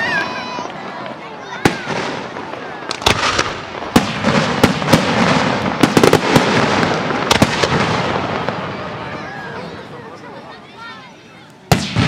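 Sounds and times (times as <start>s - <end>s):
fireworks bangs: 0.0s - 10.2s, 11.5s - 12.0s
fireworks hiss and crackle: 0.0s - 12.0s.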